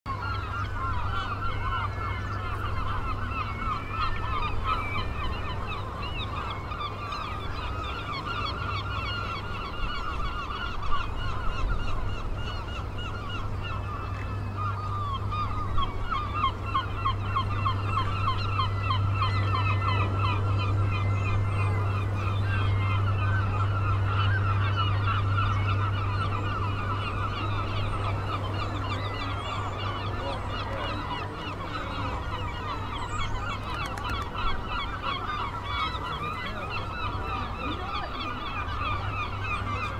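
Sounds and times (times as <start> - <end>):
gulls squawking: 0.1 - 39.9
steady low hum: 0.1 - 39.9.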